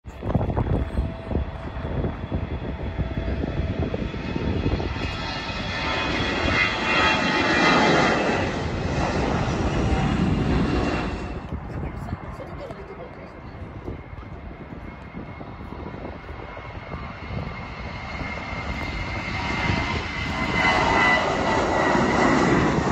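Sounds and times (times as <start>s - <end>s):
jet engines roaring overhead: 0.0s - 22.9s.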